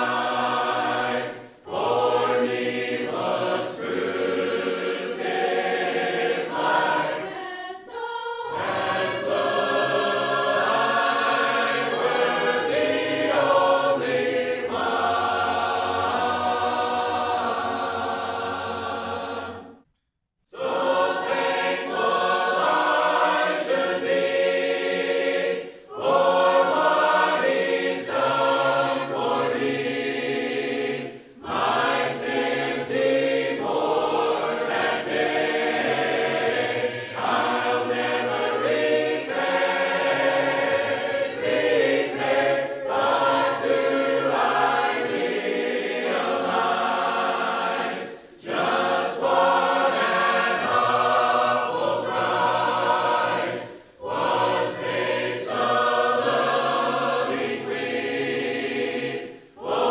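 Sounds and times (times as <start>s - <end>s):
congregation singing a hymn: 0.0s - 19.9s, 20.5s - 59.9s.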